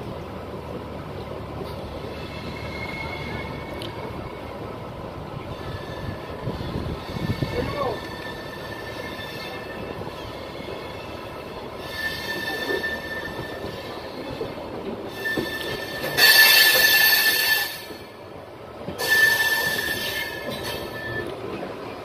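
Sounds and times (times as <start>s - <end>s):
train running rumble: 0.0s - 22.0s
train wheels squealing: 1.7s - 4.7s, 5.5s - 18.2s, 19.0s - 21.8s.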